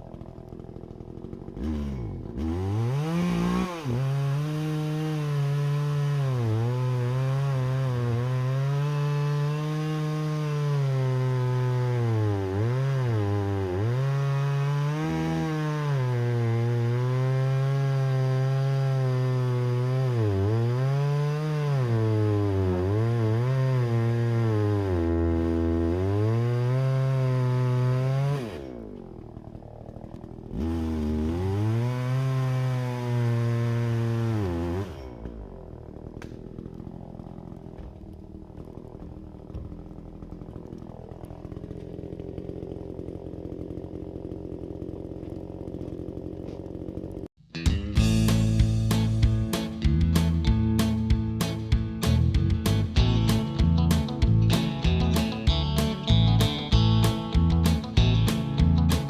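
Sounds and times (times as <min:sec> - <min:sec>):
chainsaw cutting a log: 0:00.0 - 0:47.4, 0:48.0 - 0:59.0.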